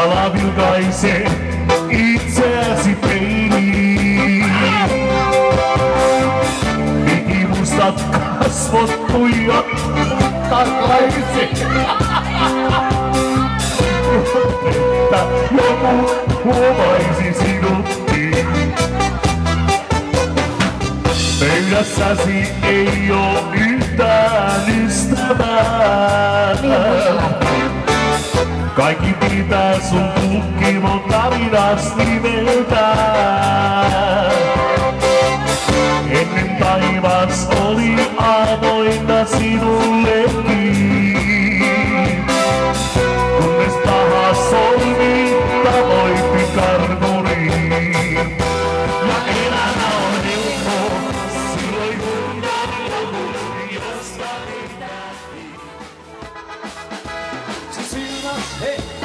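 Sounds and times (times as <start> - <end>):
drums: 0.0 - 59.0
electric keyboard: 0.0 - 59.0.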